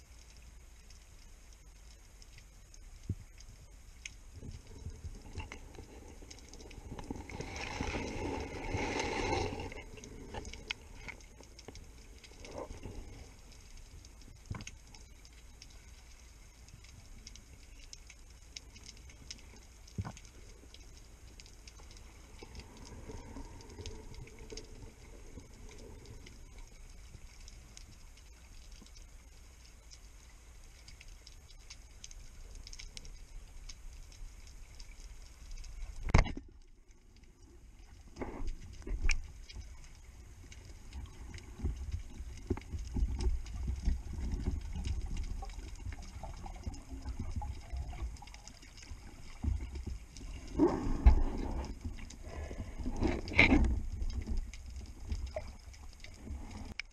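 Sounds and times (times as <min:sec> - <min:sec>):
underwater crackle of tiny clicks: 0:00.0 - 0:56.9
low underwater rumble: 0:01.9 - 0:30.6, 0:31.9 - 0:56.9.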